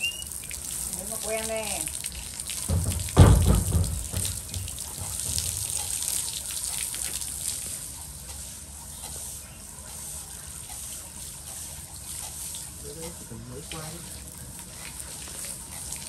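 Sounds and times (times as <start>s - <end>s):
hose water splashing on concrete: 0.0s - 16.0s.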